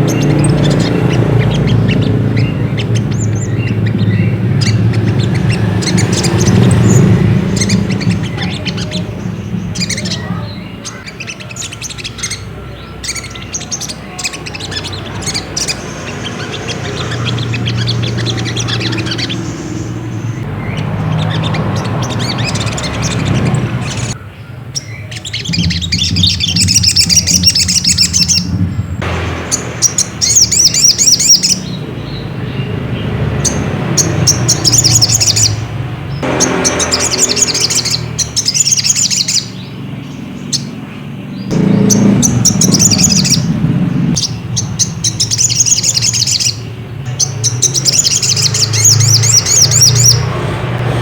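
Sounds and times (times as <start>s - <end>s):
bird twittering trills: 0.0s - 51.0s.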